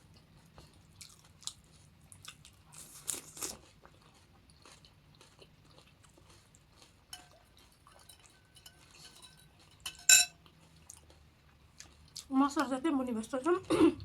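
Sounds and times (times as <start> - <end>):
person chewing crisp food: 0.0 - 12.3.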